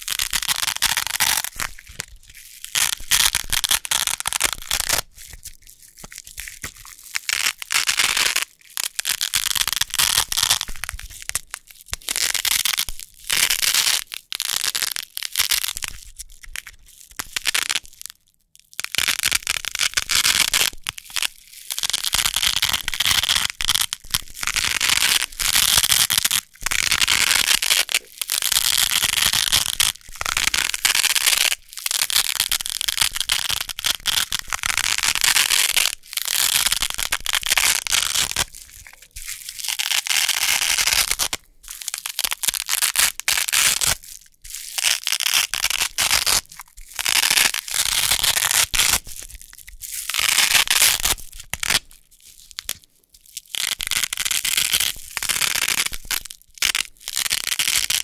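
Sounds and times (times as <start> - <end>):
velcro tape being peeled apart: 0.0 - 18.2, 18.8 - 58.0.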